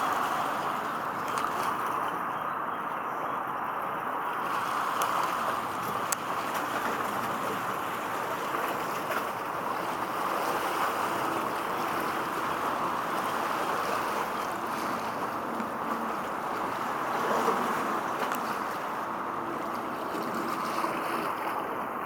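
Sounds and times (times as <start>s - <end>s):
water rushing: 0.0s - 2.7s, 3.4s - 22.0s
faint boat engine drone: 0.0s - 22.0s
wind: 0.0s - 22.0s.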